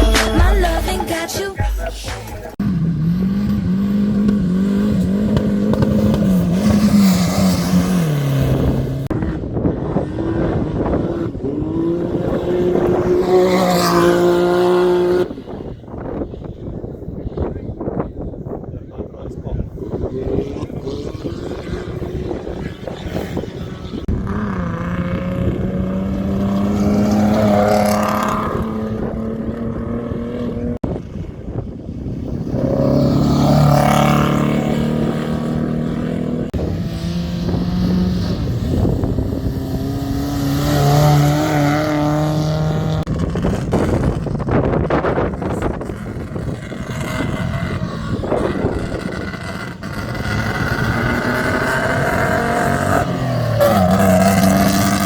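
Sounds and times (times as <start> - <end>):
motorcycle engines revving past: 2.5 - 55.0.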